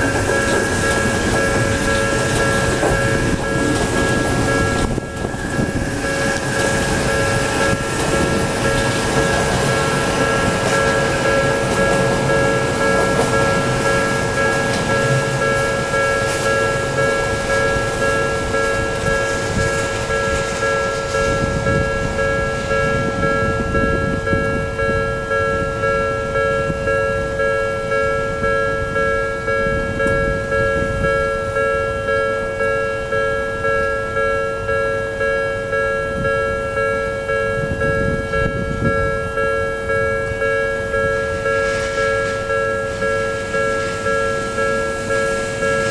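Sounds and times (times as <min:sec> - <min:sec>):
level-crossing alarm beeping: 0:00.0 - 0:45.9
train passing over crossing: 0:00.0 - 0:45.9.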